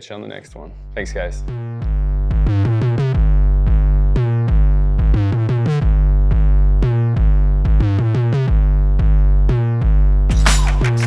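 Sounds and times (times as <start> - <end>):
synthesizer music with deep bass: 0.7 - 11.0.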